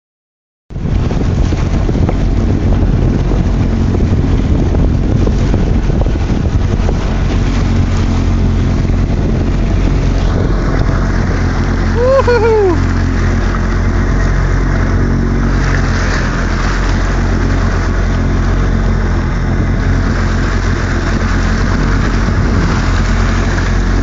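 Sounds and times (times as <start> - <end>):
jet ski engine running: 0.7 - 24.0
wind buffeting microphone: 0.7 - 24.0.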